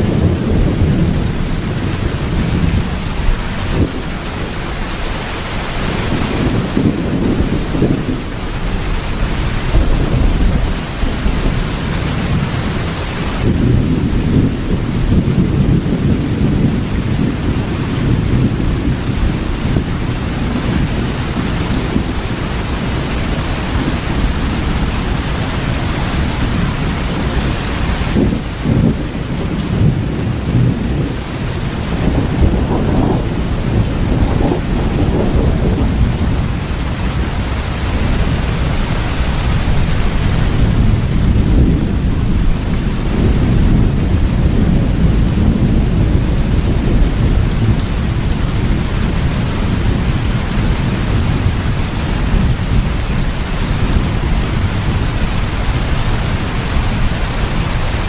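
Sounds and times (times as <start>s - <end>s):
heavy rain: 0.0s - 58.0s
low rolling thunder: 0.0s - 58.0s.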